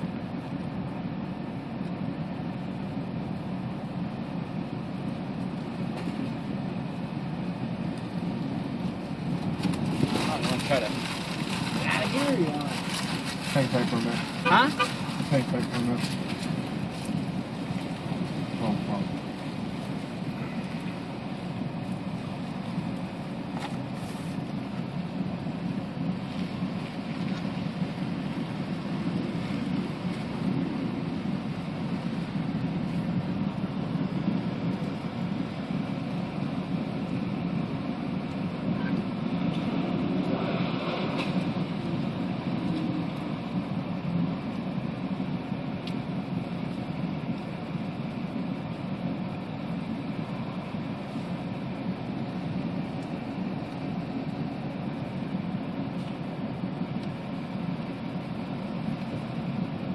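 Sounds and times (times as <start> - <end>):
storm wind on microphone: 0.0 - 59.9.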